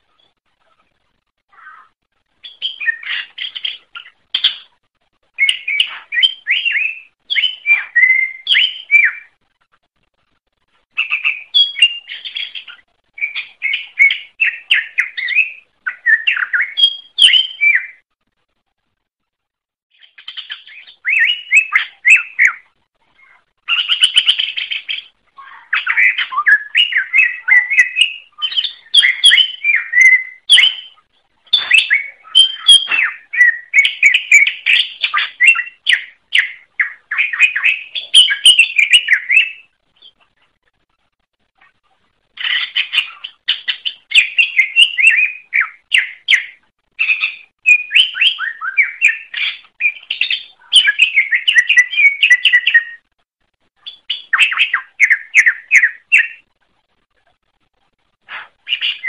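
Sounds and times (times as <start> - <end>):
bird singing whistled notes: 2.4 - 4.7, 5.4 - 9.4, 11.0 - 18.0, 20.0 - 40.2, 42.4 - 53.1, 53.8 - 56.5, 58.4 - 59.0.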